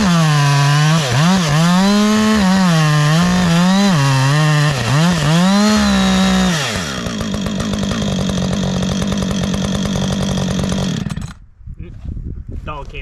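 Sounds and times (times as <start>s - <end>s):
chainsaw cutting log: 0.0s - 11.4s
chainsaw idling: 0.0s - 11.4s.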